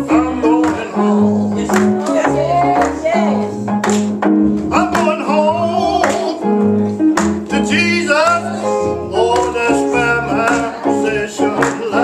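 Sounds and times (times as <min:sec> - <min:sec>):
gospel group singing: 0:00.0 - 0:03.9, 0:04.6 - 0:06.6, 0:07.5 - 0:12.0
bass: 0:00.0 - 0:12.0
keyboard: 0:00.0 - 0:12.0.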